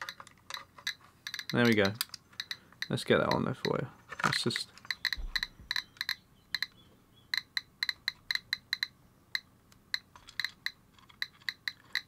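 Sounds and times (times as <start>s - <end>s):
geiger counter clicking: 0.0s - 3.8s, 4.8s - 12.0s.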